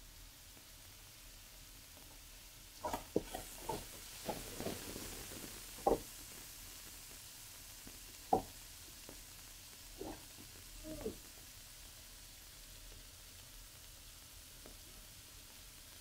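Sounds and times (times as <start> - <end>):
meat sizzling in a wok: 0.0 - 16.0.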